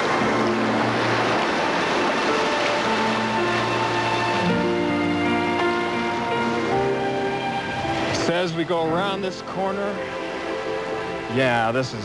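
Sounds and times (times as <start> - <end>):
ocean surf rushing: 0.0 - 12.0
soft background music: 0.0 - 12.0.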